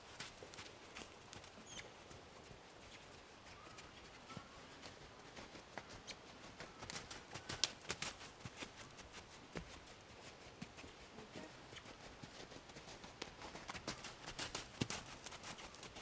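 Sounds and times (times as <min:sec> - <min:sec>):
horse hoofbeats on sand and gravel: 0:00.0 - 0:16.0.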